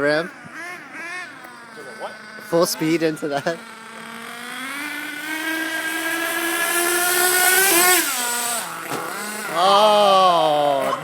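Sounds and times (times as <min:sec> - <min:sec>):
small two-stroke engine revving: 0:00.0 - 0:11.0.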